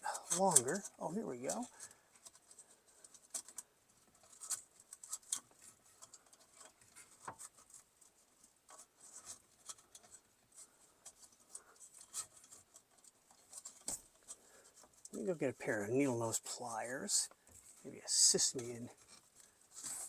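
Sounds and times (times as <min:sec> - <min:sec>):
small clicks and scrapes of wires: 0:00.0 - 0:20.0.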